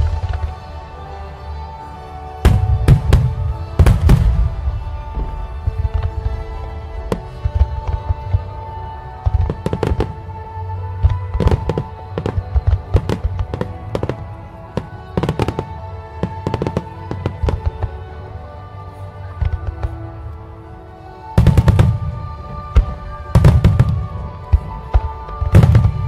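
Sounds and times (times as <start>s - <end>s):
music with long held tones: 0.0s - 26.0s.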